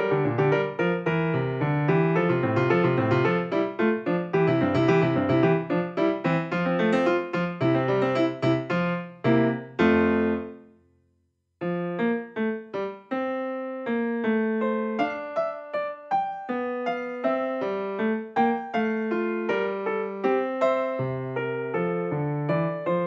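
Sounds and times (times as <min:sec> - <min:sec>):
piano music: 0:00.0 - 0:10.8, 0:11.6 - 0:23.0.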